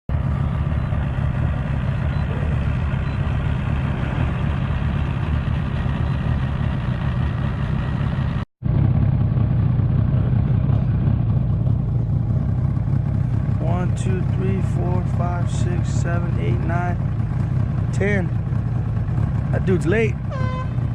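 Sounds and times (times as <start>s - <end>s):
engine rumbling: 0.1s - 20.9s.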